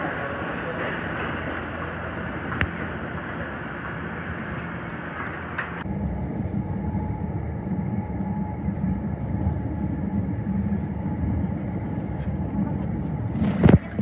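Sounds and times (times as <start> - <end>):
subway cars rumbling past: 0.0 - 13.4.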